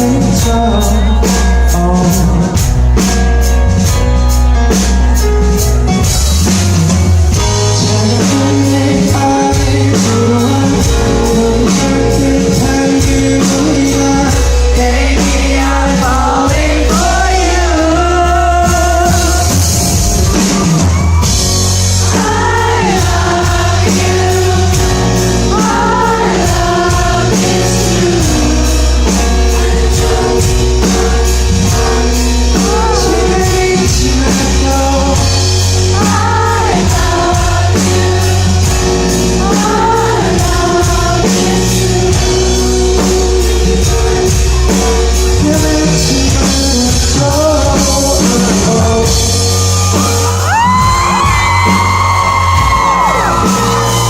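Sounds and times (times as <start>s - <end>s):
live pop-rock band with singing: 0.0s - 54.0s.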